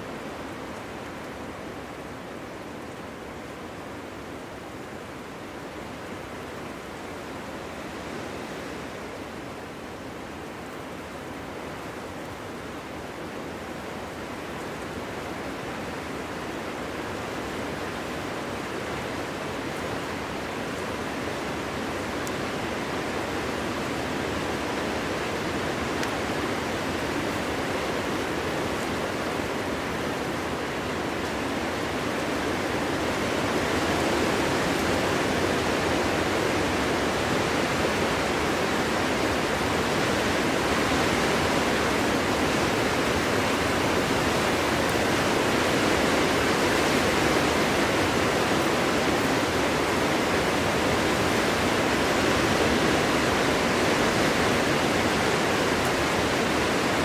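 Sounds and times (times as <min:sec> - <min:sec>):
wind blowing through forest: 0:00.0 - 0:57.0.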